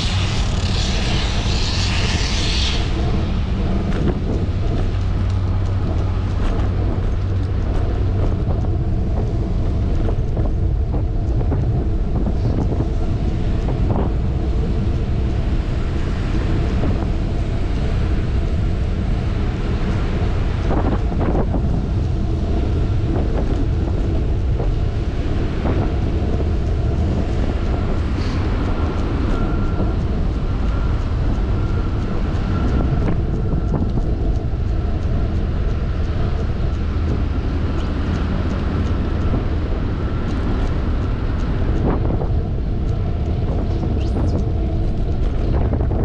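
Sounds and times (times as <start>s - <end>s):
bicycle rumbling on asphalt: 0.0s - 46.0s
low hum: 0.0s - 46.0s
wind buffeting microphone: 0.0s - 46.0s.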